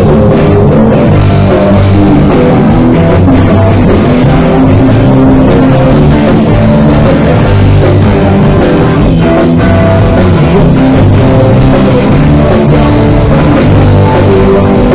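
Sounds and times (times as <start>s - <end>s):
live rock band playing: 0.0s - 14.9s.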